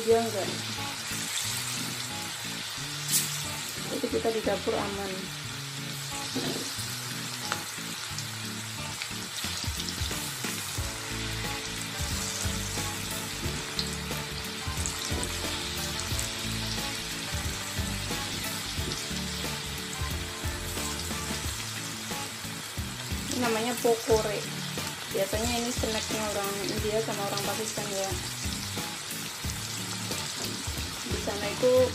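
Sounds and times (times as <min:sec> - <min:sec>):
food deep-frying in oil: 0:00.0 - 0:31.9.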